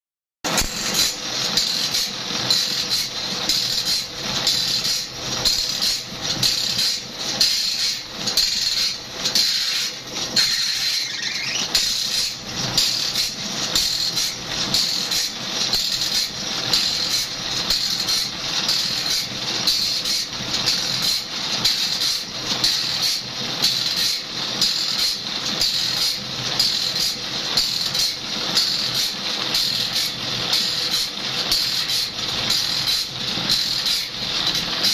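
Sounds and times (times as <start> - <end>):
abrasive disc grinding saw teeth: 0.8 - 34.9.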